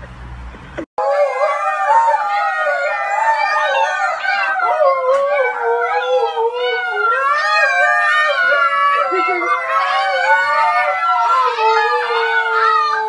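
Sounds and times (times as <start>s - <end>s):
dogs howling: 1.0s - 13.0s.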